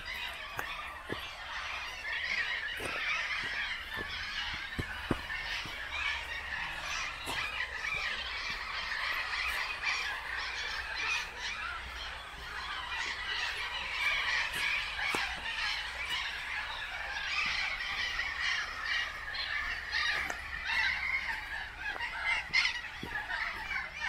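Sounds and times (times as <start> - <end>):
many birds chattering: 0.0 - 24.0.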